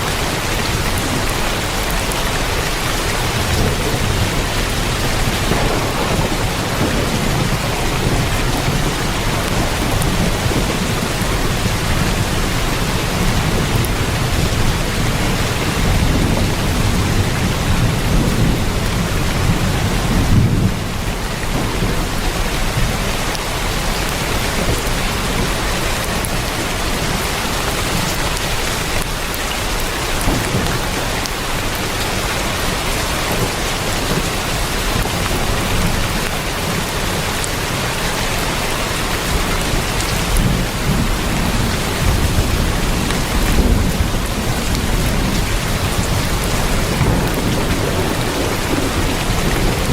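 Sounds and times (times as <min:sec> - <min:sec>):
heavy rain on tin roof: 0:00.0 - 0:49.9
thunder rumbling: 0:00.0 - 0:49.9.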